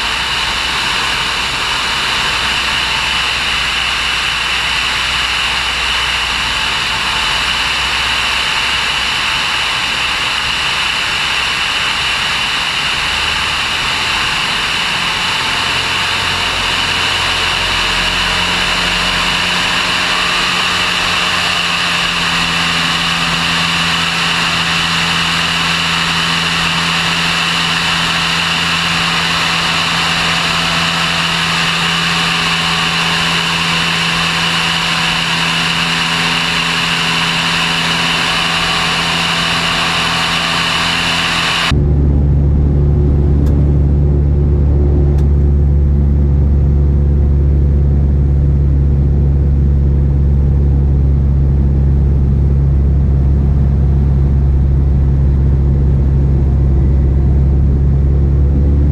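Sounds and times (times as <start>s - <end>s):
aircraft engine and propeller: 0.0s - 58.9s.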